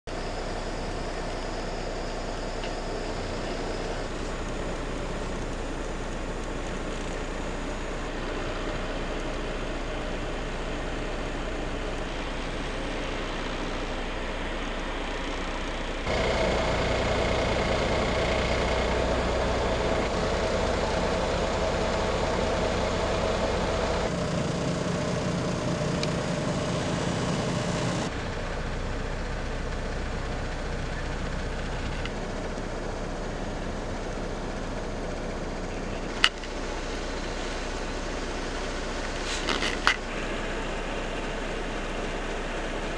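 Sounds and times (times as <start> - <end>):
road noise: 0.1 - 42.9
truck engine: 0.1 - 42.9.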